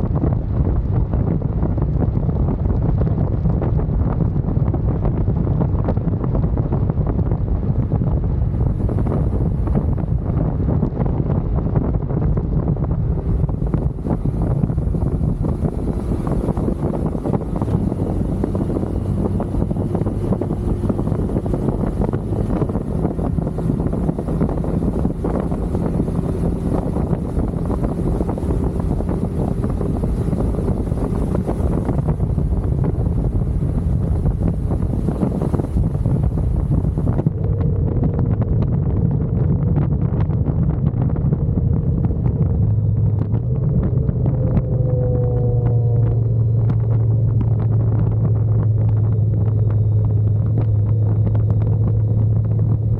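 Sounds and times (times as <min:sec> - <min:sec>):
wind buffeting microphone: 0:00.0 - 0:52.9
motorcycle engine running: 0:06.4 - 0:52.9.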